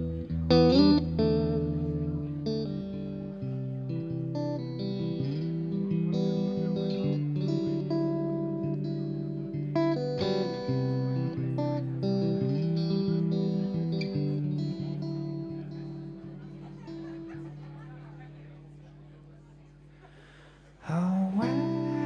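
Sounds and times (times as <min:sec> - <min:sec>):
guitar picking single notes: 0:00.0 - 0:22.0.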